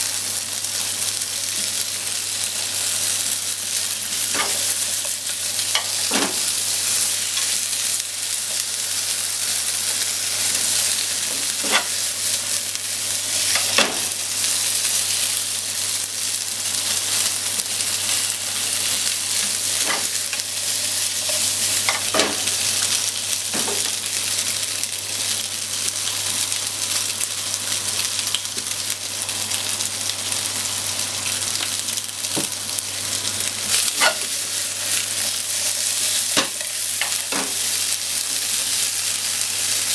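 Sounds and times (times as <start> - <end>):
fish and potatoes sizzling in pan: 0.0 - 39.9.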